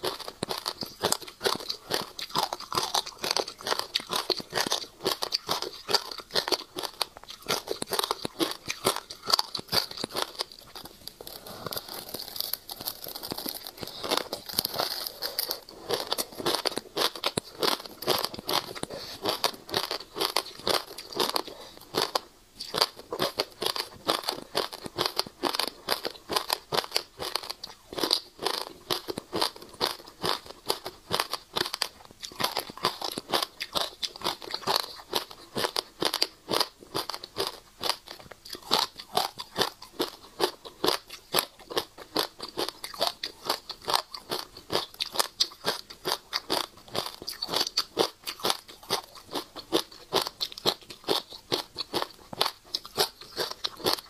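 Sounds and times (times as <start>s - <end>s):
chewing and crunching seeds: 0.0s - 54.0s.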